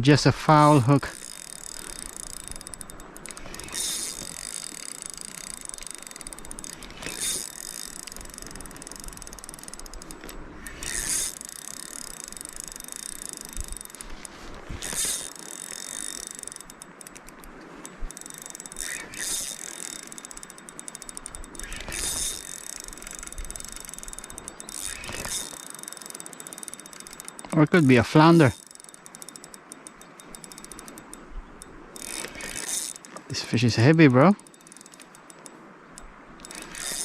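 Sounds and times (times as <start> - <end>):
fishing reel clicking and whirring: 0.4 - 37.0.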